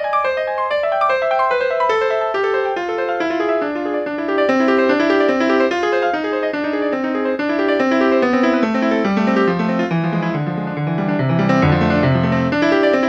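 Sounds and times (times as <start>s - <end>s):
sampled keyboard music: 0.0s - 13.0s.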